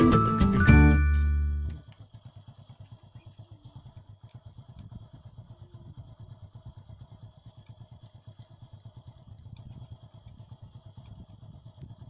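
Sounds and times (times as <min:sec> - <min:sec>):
engine throbbing: 0:00.0 - 0:12.0.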